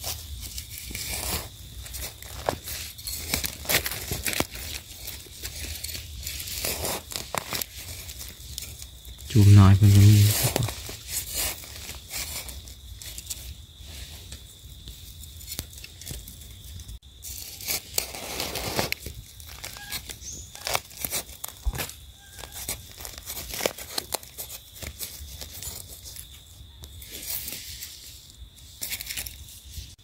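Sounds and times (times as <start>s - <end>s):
dry leaves crackling and rustling: 0.0s - 26.2s.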